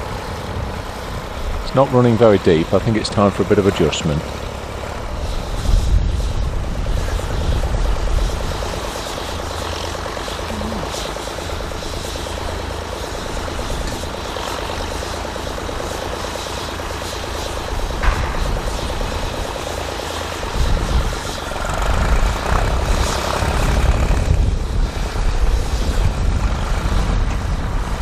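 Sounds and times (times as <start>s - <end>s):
tractor engine running under load: 0.0s - 28.0s.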